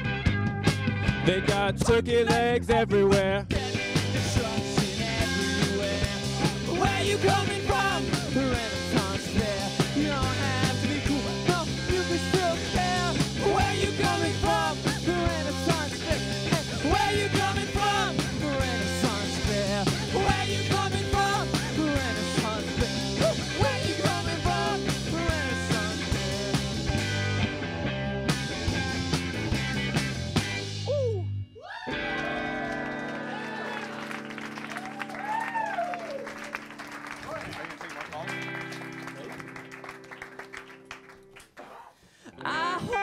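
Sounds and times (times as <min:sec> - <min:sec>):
live rock band playing: 0:00.0 - 0:30.9, 0:31.9 - 0:35.0, 0:38.2 - 0:41.0.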